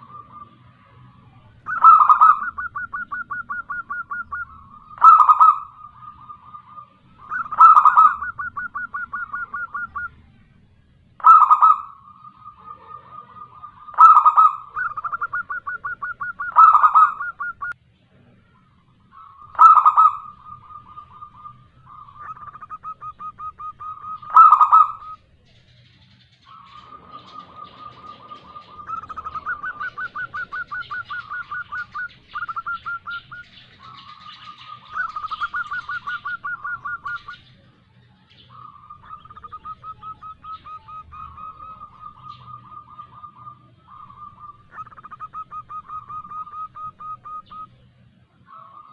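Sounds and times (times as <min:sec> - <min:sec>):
dove cooing: 0:00.0 - 0:10.6, 0:11.2 - 0:48.9.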